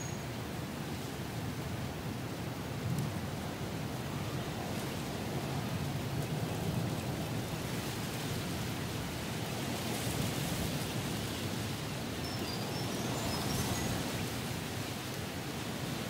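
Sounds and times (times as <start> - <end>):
strong wind through forest: 0.0 - 16.0.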